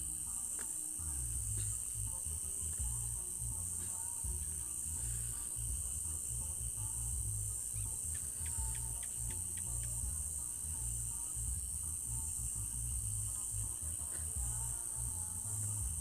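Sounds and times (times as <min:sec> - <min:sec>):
crickets chirring: 0:00.0 - 0:16.0
low rumble: 0:01.0 - 0:16.0.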